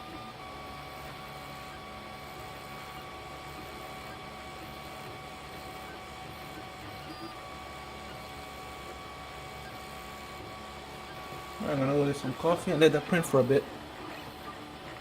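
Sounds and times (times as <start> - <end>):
printer motors whirring and whining: 0.0 - 15.0.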